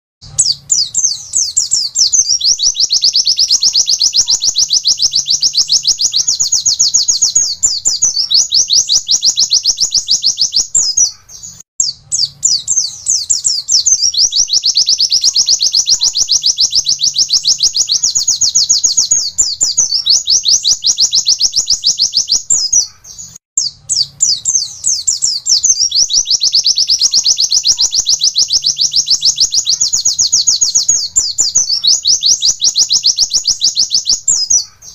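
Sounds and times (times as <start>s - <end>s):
bird singing rapid high notes: 0.2s - 34.9s.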